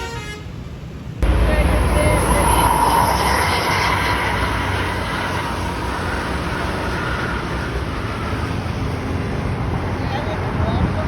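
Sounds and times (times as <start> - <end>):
road traffic passing: 0.5 - 11.0.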